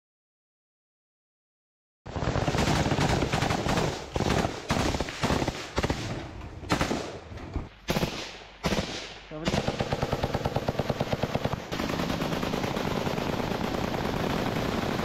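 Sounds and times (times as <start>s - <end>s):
automatic rifle fire: 2.2s - 15.0s.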